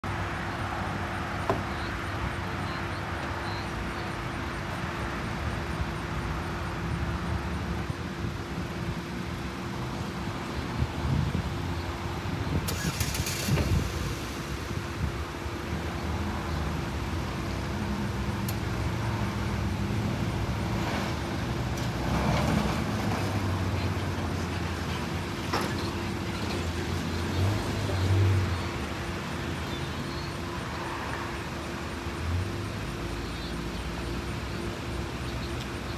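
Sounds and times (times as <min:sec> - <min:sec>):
road traffic rumble: 0:00.0 - 0:35.9.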